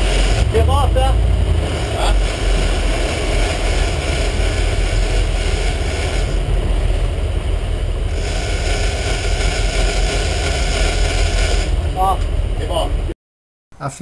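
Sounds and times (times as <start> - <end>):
boat engine running: 0.0 - 13.1
wind noise on microphone: 0.0 - 13.1.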